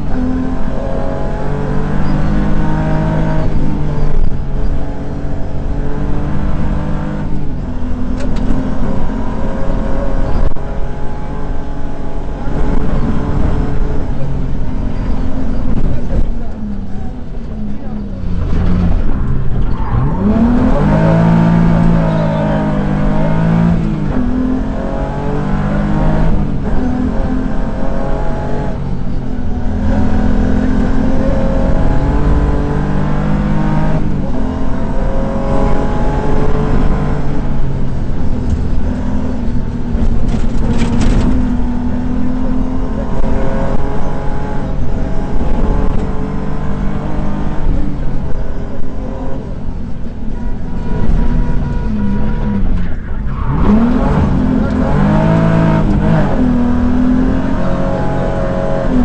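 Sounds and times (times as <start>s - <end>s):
car engine revving from inside cabin: 0.0s - 16.4s, 17.8s - 49.5s, 50.2s - 59.0s
gear changes: 0.0s - 59.0s.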